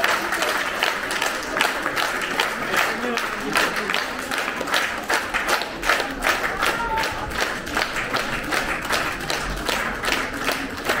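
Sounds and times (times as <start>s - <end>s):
audience clapping in unison: 0.0s - 11.0s.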